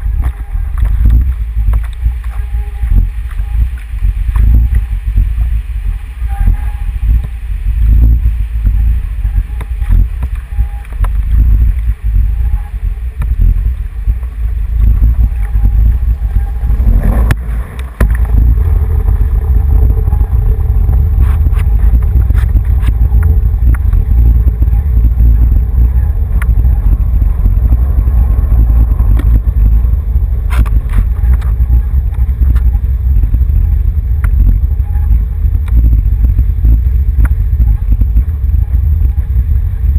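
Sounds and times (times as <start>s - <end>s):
conveyor belt lift rumbling: 0.0s - 39.9s.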